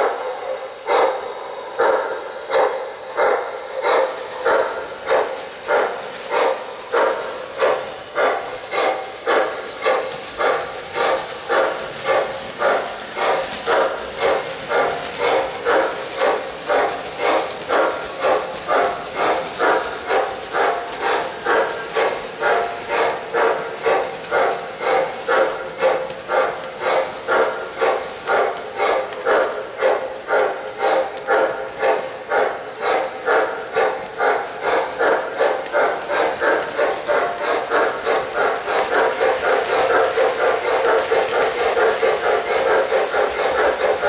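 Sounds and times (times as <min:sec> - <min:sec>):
steam locomotive chuffing: 0:00.0 - 0:44.0.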